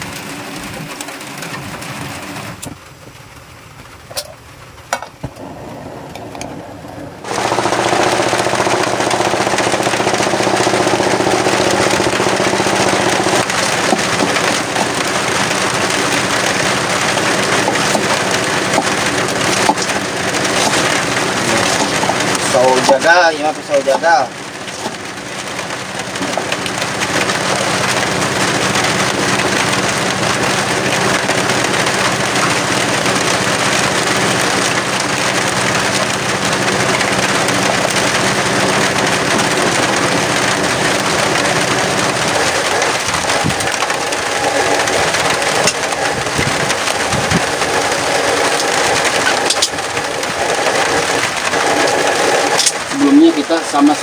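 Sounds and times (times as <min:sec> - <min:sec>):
small engine running: 0:05.4 - 0:54.0.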